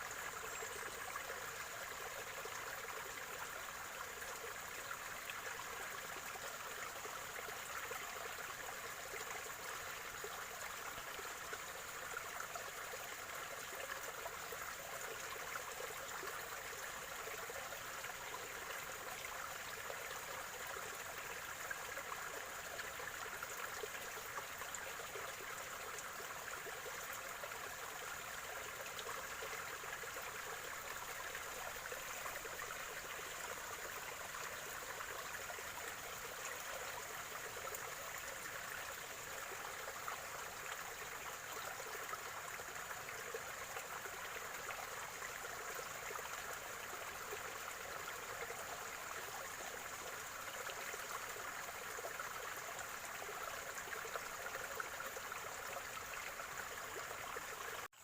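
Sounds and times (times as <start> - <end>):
stream trickling and gurgling: 0.0 - 58.0.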